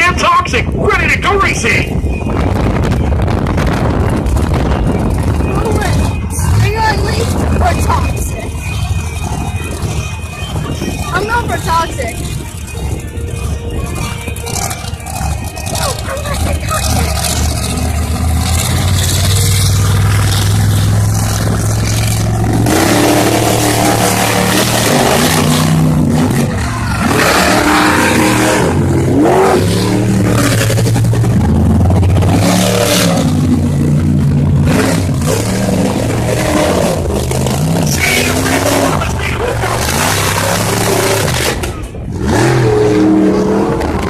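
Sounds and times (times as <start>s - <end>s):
monster truck engines revving: 0.0s - 44.0s.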